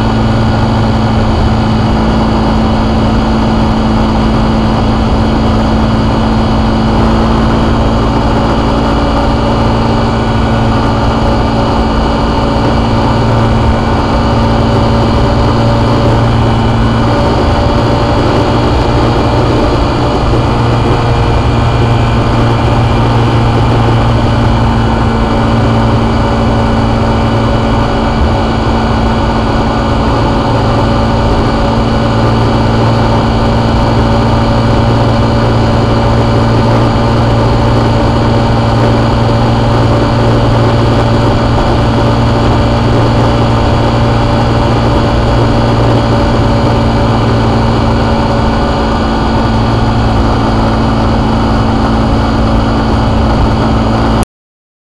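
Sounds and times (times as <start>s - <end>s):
motorcycle engine cruising: 0.0s - 54.2s
road noise rushing: 0.0s - 54.2s.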